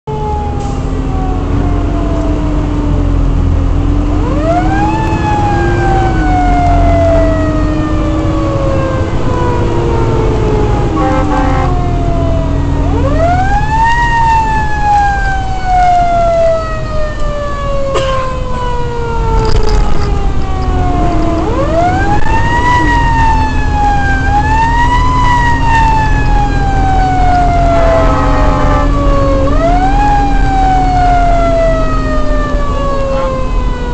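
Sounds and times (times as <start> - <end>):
fire engine siren: 0.1 - 33.9
truck engine rumble: 0.1 - 33.9.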